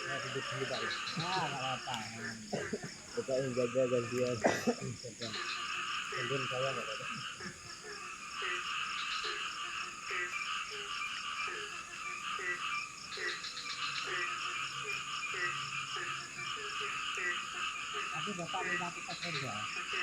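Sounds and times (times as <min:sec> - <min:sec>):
chorus of frog calls: 0:00.0 - 0:20.0
frog croaking: 0:00.0 - 0:20.0
insect drone: 0:00.0 - 0:20.0.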